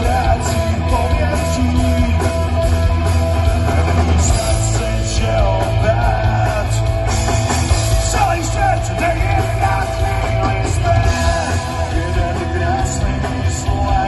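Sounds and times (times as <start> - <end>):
bass: 0.0 - 14.0
drums: 0.0 - 14.0
electric guitars: 0.0 - 14.0.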